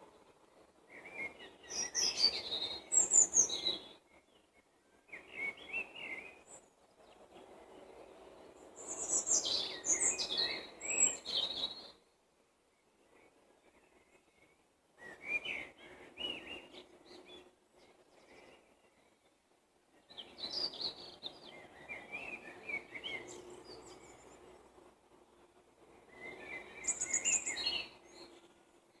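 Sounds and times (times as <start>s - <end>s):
songbirds chirping and warbling: 0.0s - 29.0s.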